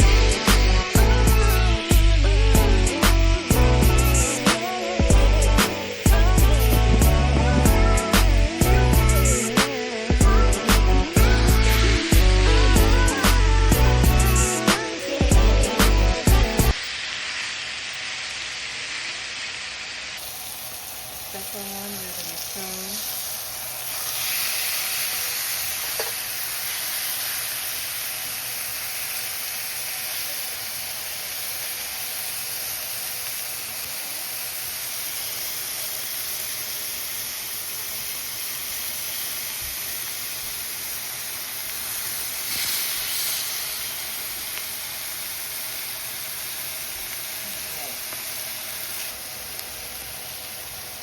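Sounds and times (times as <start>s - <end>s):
steak sizzling in frying pan: 0.0s - 51.0s.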